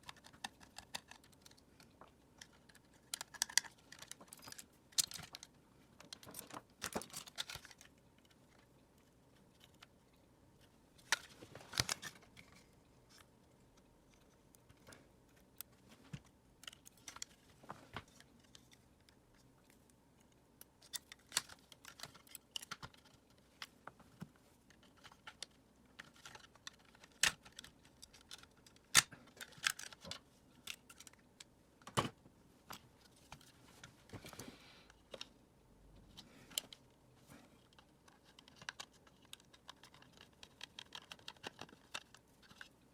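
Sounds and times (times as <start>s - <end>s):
plastic parts clicking: 0.0s - 8.7s, 11.0s - 23.8s, 24.6s - 33.6s, 37.6s - 42.8s.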